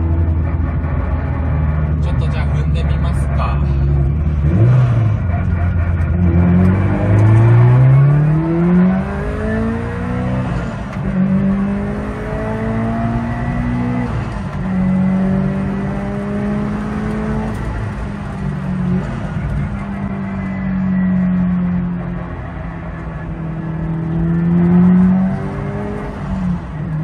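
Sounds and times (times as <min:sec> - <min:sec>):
car engine accelerating at full throttle: 0:00.0 - 0:27.0.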